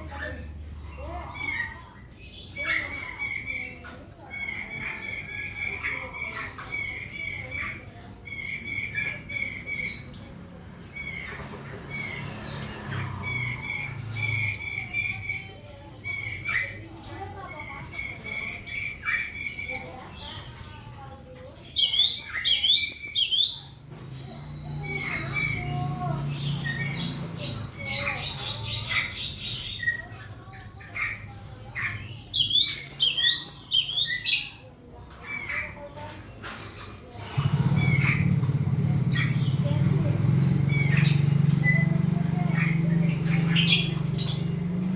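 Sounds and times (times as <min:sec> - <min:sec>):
bird chirping: 0:00.0 - 0:44.9.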